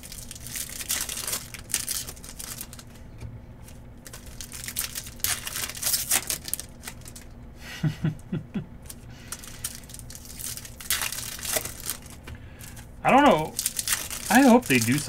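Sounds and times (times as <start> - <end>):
card pack wrappers crinkling and tearing: 0.0 - 7.4, 8.8 - 15.0.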